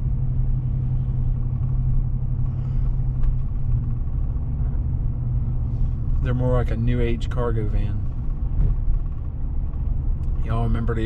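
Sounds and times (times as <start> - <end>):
pickup truck engine rumble: 0.0 - 11.0
road noise: 0.0 - 11.0.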